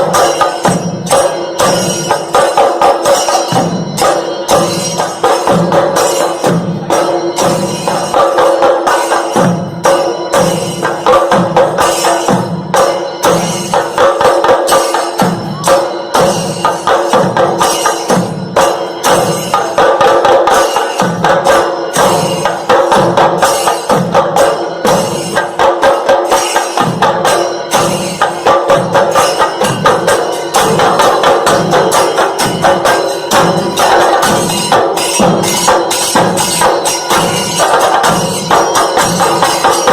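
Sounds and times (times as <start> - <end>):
instrumental music with percussion: 0.0 - 39.9.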